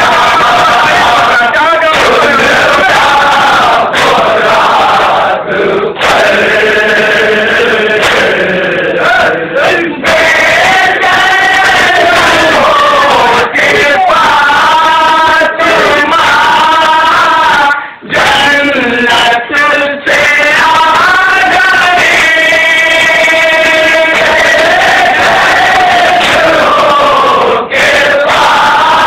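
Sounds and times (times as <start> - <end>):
men chanting a lament: 0.0 - 29.0
reciter singing long held lines: 0.0 - 29.0.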